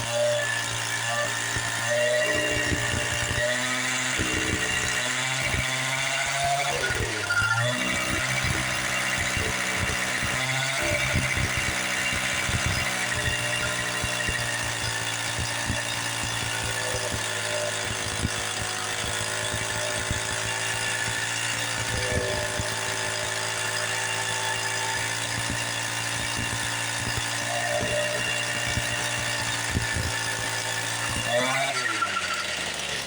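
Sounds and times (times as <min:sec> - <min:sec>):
small two-stroke engine whining: 0:00.0 - 0:33.0.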